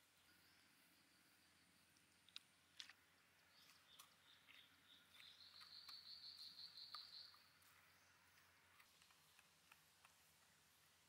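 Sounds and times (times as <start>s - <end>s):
faint insect trill: 0.0s - 9.6s.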